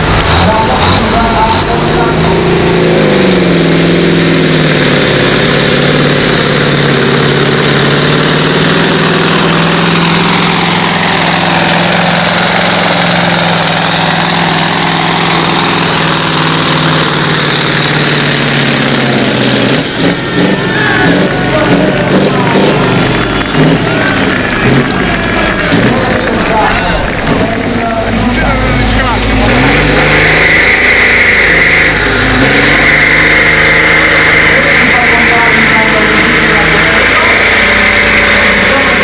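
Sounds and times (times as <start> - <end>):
high whine: 0.0 - 39.0
tractor engine running under load: 0.0 - 39.0.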